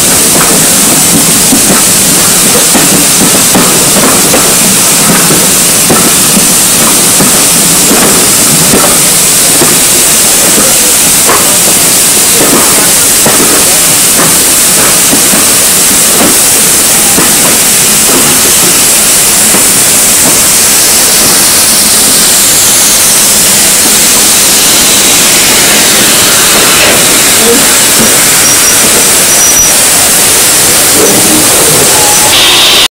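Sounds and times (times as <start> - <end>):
steam locomotive hissing: 0.0 - 32.9.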